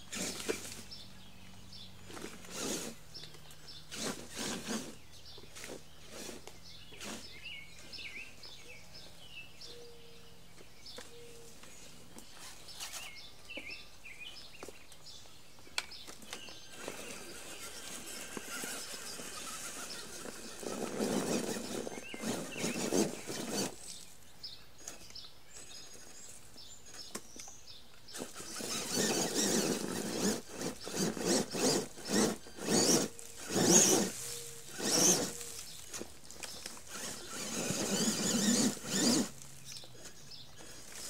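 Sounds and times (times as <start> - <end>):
rc truck whirring through brush: 0.0 - 41.0
small bird chirping: 0.1 - 41.0.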